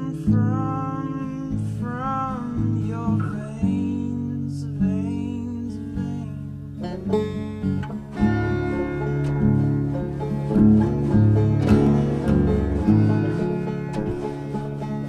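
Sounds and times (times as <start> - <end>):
acoustic guitar song with singing: 0.0 - 15.0.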